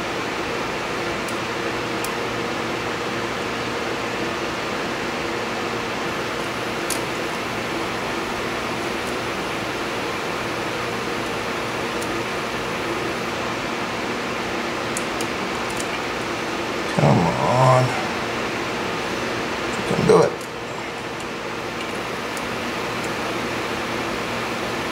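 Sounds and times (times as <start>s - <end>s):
fan-like background hum: 0.0s - 24.9s.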